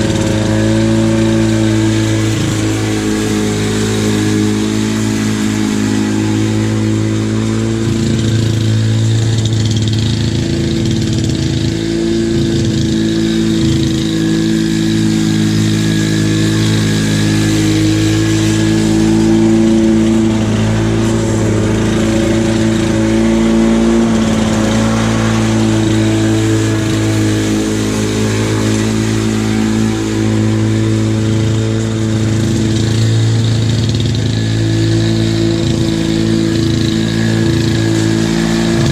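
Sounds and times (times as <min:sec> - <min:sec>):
lawn mower engine cutting grass: 0:00.0 - 0:38.9.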